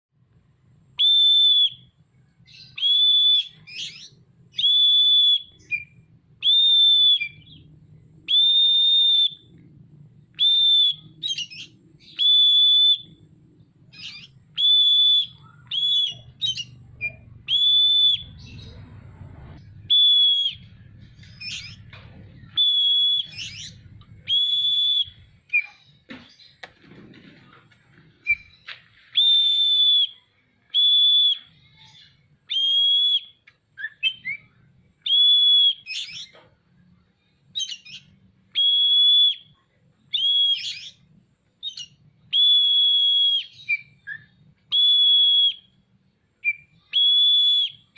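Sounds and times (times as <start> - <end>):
magpie-robin whistled song: 1.0 - 9.6, 10.2 - 26.5, 28.2 - 36.4, 37.2 - 47.9
bird chirps: 1.0 - 26.6, 28.1 - 47.9.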